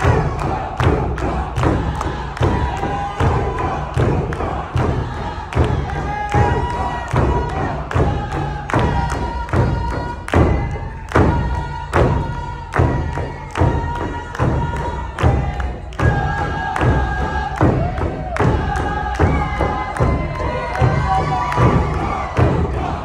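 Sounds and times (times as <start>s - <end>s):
group singing together: 0.0s - 23.0s
steady drumbeat: 0.0s - 23.0s.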